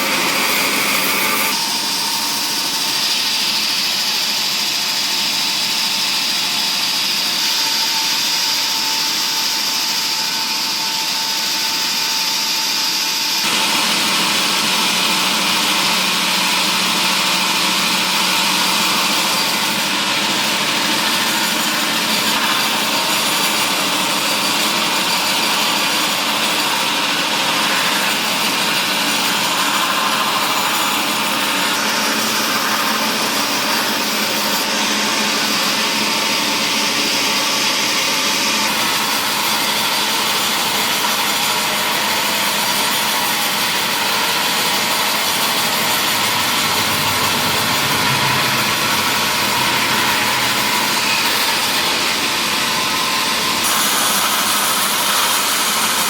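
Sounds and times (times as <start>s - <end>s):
saw cutting wood: 0.0s - 56.0s.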